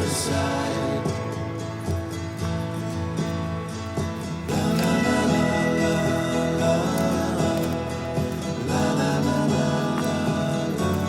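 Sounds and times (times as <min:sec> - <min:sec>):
soft song with acoustic guitar: 0:00.0 - 0:11.0.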